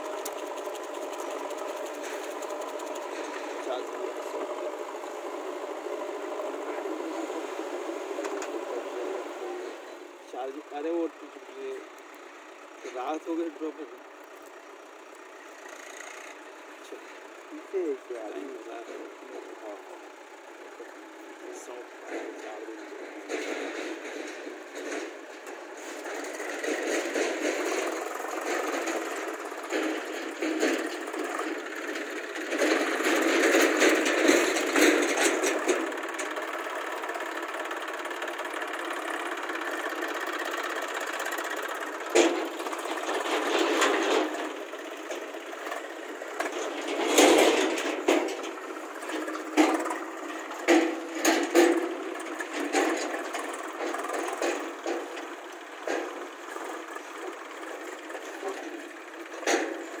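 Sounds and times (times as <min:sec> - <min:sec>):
sharp knocks and clatters: 0:00.0 - 0:07.2, 0:15.6 - 1:00.0
diesel engines running: 0:00.0 - 1:00.0.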